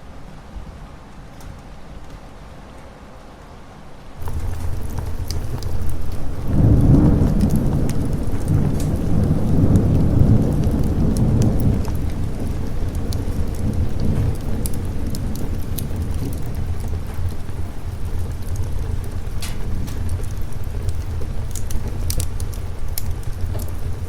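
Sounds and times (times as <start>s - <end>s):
steady rain: 0.0s - 24.0s
thunder rumbling: 4.2s - 24.0s.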